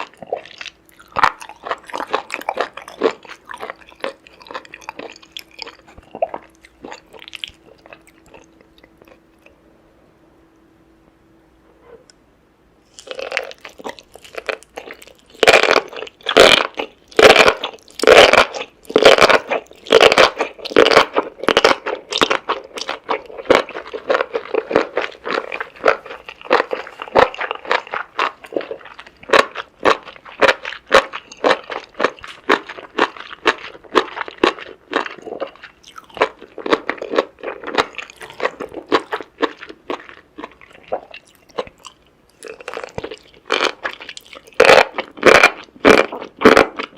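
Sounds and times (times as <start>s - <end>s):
chewing and crunching: 0.0s - 9.6s, 12.9s - 46.9s.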